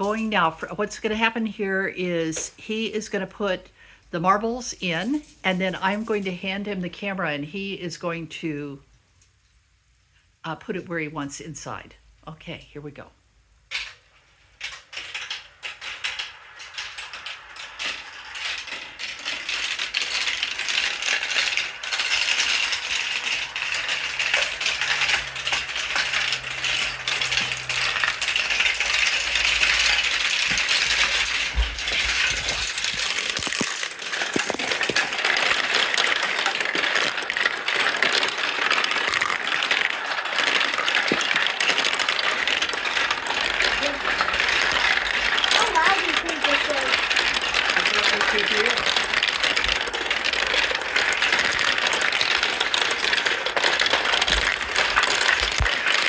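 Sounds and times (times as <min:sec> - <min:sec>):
marbles clattering through marble run: 0:00.0 - 0:08.4, 0:13.6 - 0:56.0.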